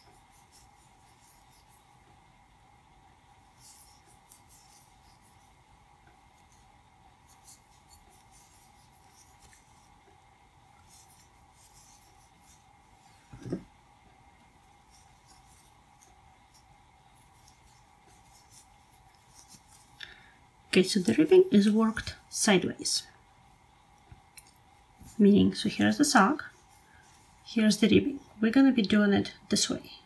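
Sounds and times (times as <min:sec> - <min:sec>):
crochet hook rustling yarn: 0:00.0 - 0:02.3, 0:03.3 - 0:23.0, 0:24.9 - 0:28.3
faint steady hum: 0:00.0 - 0:30.0.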